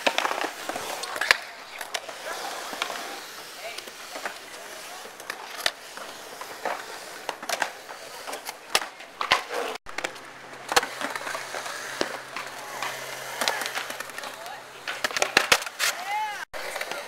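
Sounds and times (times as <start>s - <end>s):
skateboard clacking on concrete: 0.0s - 17.0s
skateboard wheels rolling on concrete: 0.0s - 17.0s.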